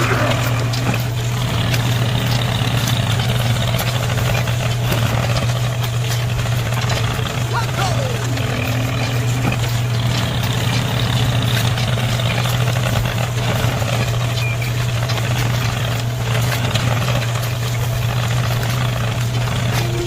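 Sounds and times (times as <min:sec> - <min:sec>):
motor running steadily: 0:00.0 - 0:20.0.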